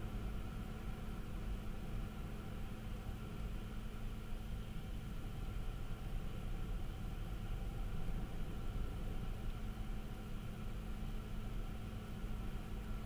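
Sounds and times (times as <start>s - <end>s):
car cabin road and engine drone: 0.0s - 13.0s.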